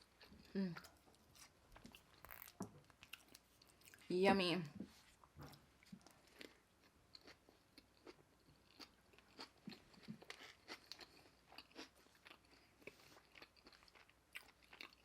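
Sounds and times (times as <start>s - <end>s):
chewing food: 0.0s - 4.1s, 5.2s - 15.0s.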